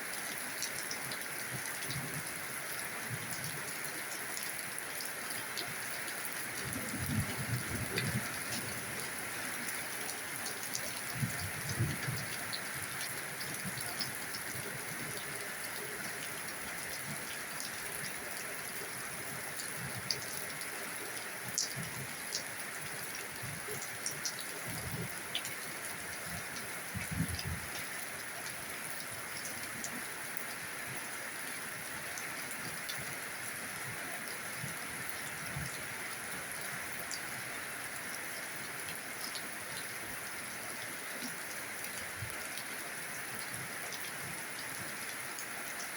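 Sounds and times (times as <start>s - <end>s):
steady rain falling: 0.0s - 45.9s
ticks of raindrops: 0.0s - 45.9s.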